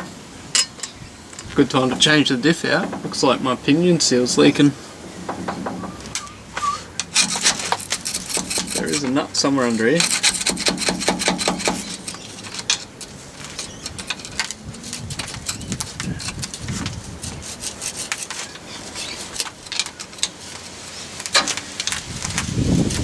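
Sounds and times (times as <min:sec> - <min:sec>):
hand tools clicking and knocking: 0:00.0 - 0:03.6, 0:05.3 - 0:23.0.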